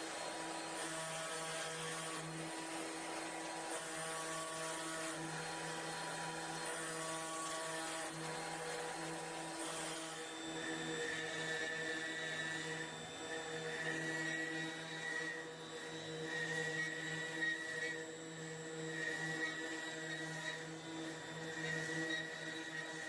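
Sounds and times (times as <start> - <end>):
router motor hum: 0.0 - 23.0.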